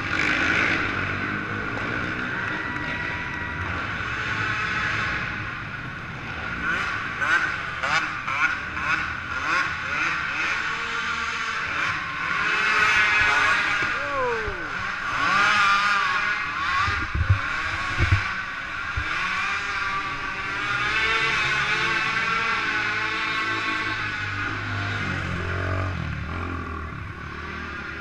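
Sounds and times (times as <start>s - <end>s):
quad engines revving: 0.0s - 28.0s
quad passing by: 0.0s - 28.0s.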